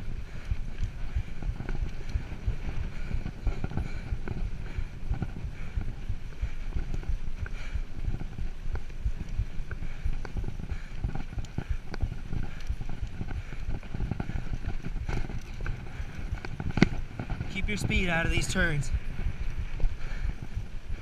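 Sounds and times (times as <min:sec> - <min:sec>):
bike knocking and rattling: 0:00.0 - 0:21.0
low rumble: 0:00.0 - 0:21.0.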